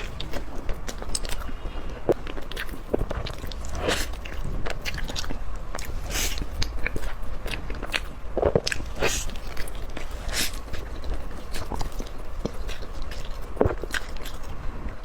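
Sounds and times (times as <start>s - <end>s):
biting and chewing food: 0.0s - 15.0s.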